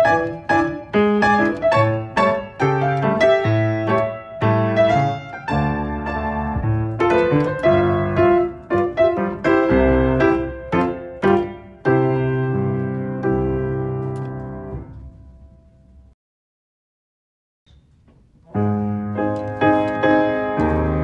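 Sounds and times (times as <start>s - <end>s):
solo piano: 0.0s - 16.2s, 18.4s - 21.0s.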